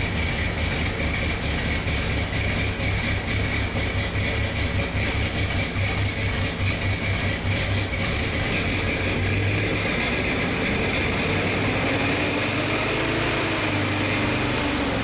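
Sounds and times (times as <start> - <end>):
car engine idling with deep growl: 0.0 - 15.0.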